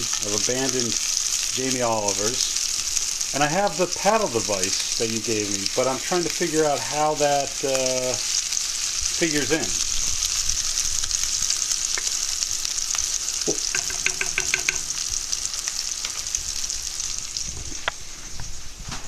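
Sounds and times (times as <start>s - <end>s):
food sizzling on stove: 0.0s - 19.0s.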